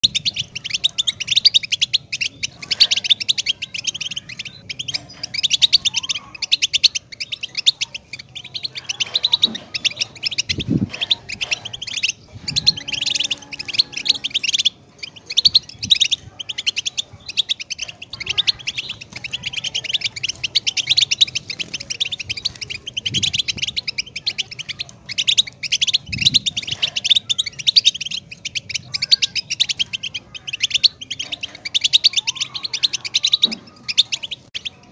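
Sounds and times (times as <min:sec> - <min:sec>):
goldfinch twittering song: 0:00.0 - 0:34.9.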